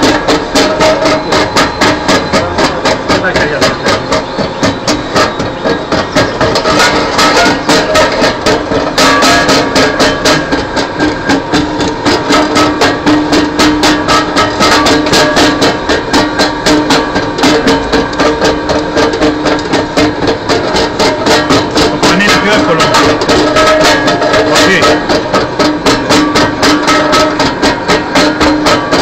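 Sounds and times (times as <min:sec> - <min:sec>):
grinder rotor knocking: 0:00.0 - 0:29.0.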